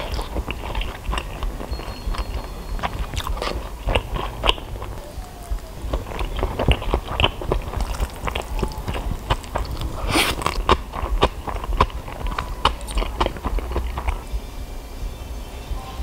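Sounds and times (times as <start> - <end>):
person chewing noodles: 0.0 - 14.3.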